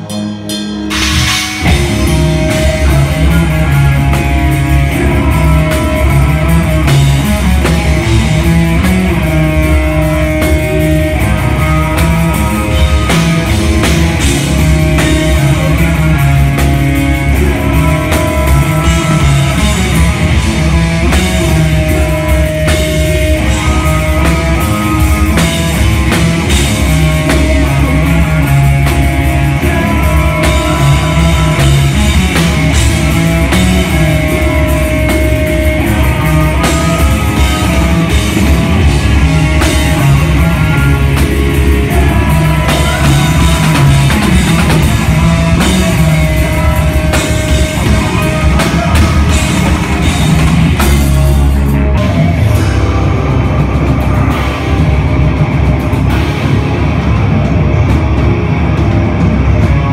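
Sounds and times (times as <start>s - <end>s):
distorted electric guitars: 0.0s - 59.9s
fast drum-kit hits: 0.0s - 59.9s.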